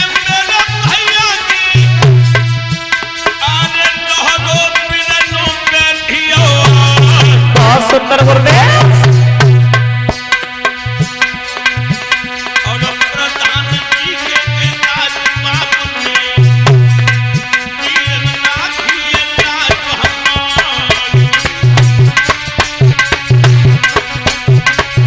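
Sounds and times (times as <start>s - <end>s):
devotional music with tabla: 0.0s - 25.0s.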